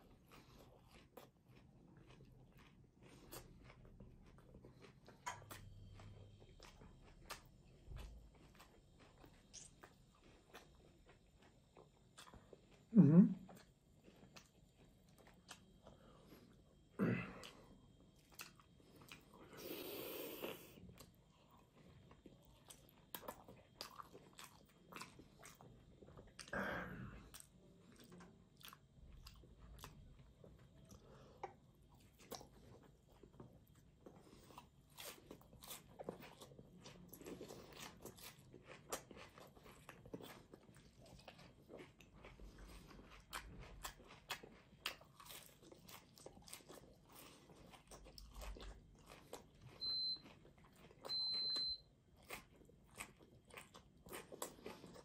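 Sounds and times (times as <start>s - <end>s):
person crunching and chewing food: 0.0s - 55.0s.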